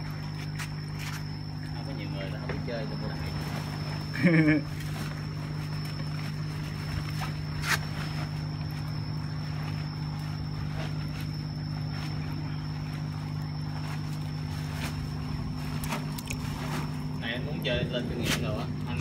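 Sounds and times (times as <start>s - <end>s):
air pump humming: 0.0s - 19.0s.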